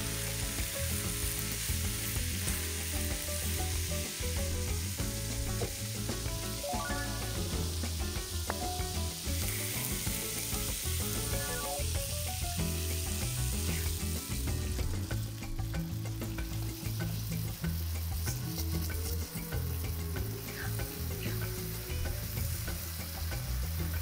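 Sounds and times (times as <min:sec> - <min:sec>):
soft background music: 0:00.0 - 0:24.0
vegetables sizzling in a pan: 0:00.0 - 0:24.0.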